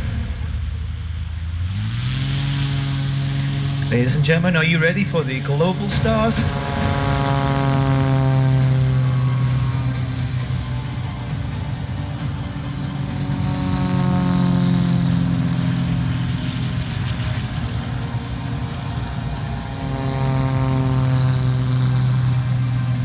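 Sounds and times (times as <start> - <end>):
model aircraft passing by: 1.5 - 23.0.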